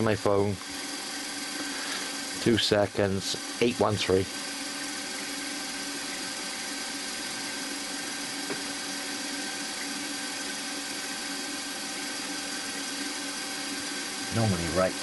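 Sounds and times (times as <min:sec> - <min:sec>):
milling machine motor hum: 0:00.0 - 0:15.0.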